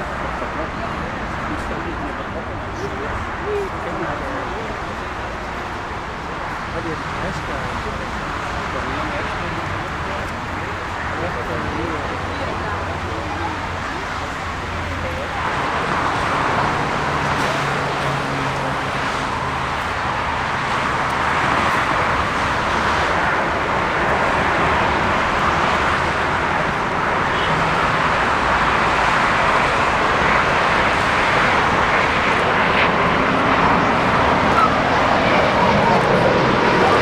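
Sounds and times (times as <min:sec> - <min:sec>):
jet engines rushing: 0:00.0 - 0:37.0.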